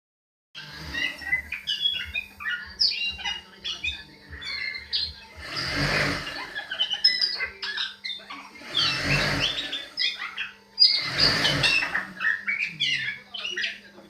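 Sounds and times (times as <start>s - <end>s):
myna calling: 0.6s - 13.8s.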